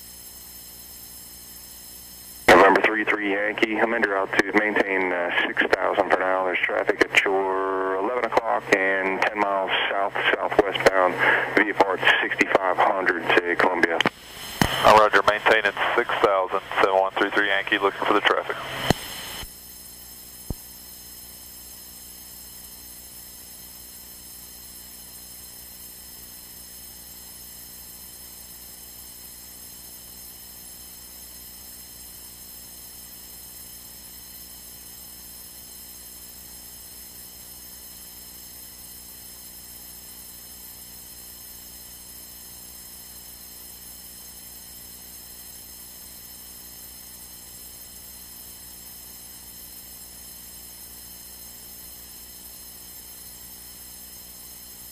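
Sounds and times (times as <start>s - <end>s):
electrical hum and hiss: 0.0s - 54.9s.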